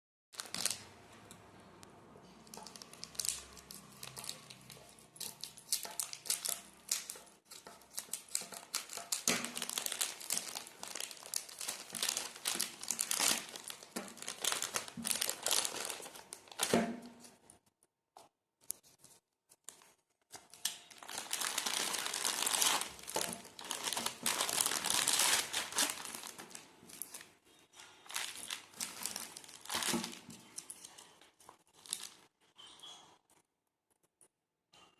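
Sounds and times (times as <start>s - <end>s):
plastic packaging crinkling and tearing: 0.4s - 1.0s, 2.4s - 17.5s, 18.8s - 32.3s.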